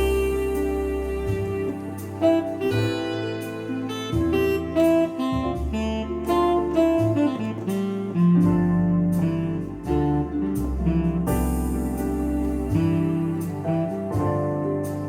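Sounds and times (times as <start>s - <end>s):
keyboard accompaniment with bass line: 0.0s - 15.0s.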